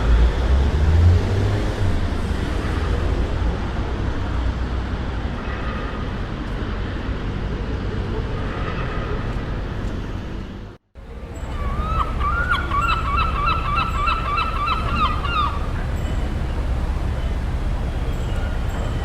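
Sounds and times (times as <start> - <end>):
passing vehicle rumble: 0.0 - 19.0
traffic: 0.0 - 19.0.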